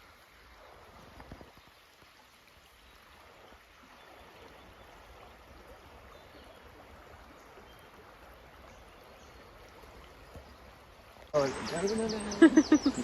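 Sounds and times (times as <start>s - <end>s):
stream of running water: 0.0s - 13.0s.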